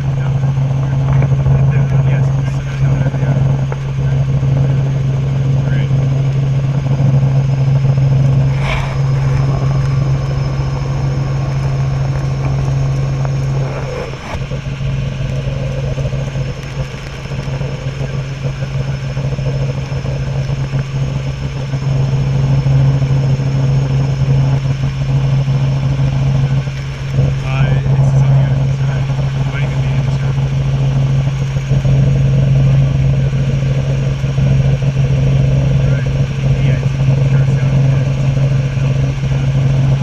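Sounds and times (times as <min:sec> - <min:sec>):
helicopter droning in flight: 0:00.0 - 0:40.0.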